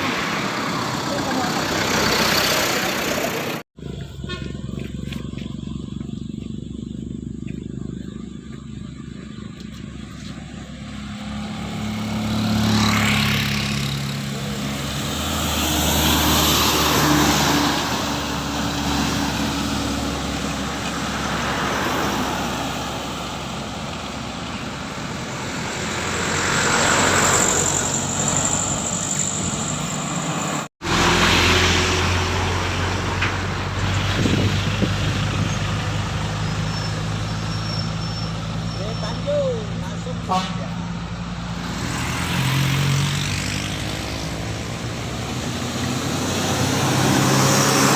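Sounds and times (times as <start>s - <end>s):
low engine hum: 0.0s - 47.9s
vehicles passing: 0.0s - 47.9s.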